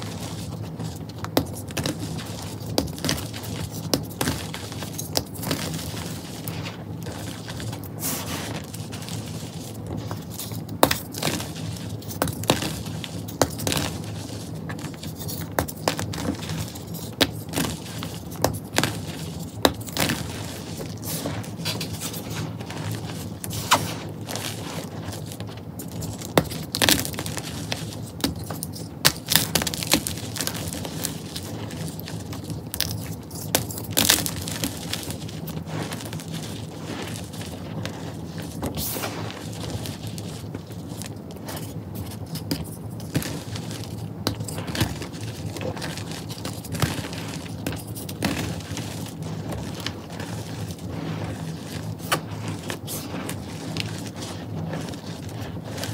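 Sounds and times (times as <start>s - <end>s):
hands crushing chalk: 0.0s - 55.9s.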